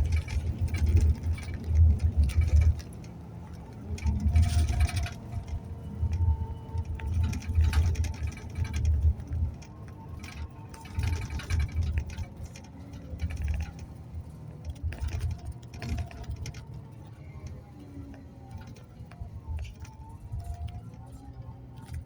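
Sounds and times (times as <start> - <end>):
rattles and clicks: 0.0 - 22.0
vehicle ride rumble: 0.0 - 22.0.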